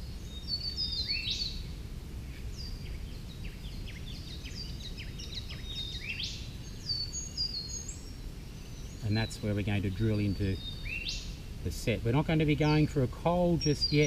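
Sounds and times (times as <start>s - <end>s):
birds calling and chirping: 0.0s - 14.0s
low background noise: 0.0s - 14.0s.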